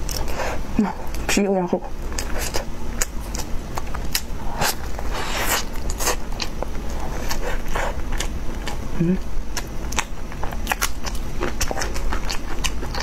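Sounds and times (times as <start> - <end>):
chewing and biting bun: 0.0 - 1.2, 1.9 - 13.0.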